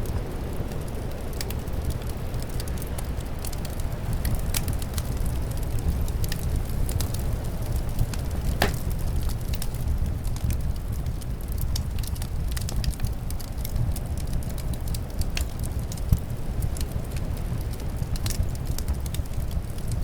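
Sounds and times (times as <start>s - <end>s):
low rumble of wind: 0.0s - 20.0s
wood fire crackling and popping: 0.0s - 20.0s.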